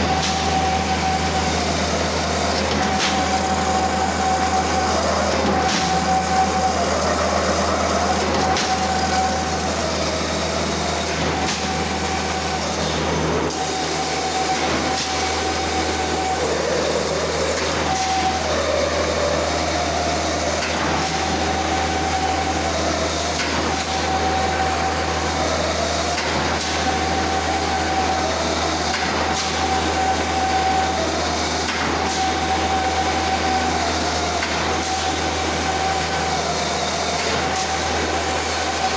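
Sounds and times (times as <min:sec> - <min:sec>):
machine whirring: 0:00.0 - 0:38.9
mid-pitched machine whine: 0:00.0 - 0:38.9.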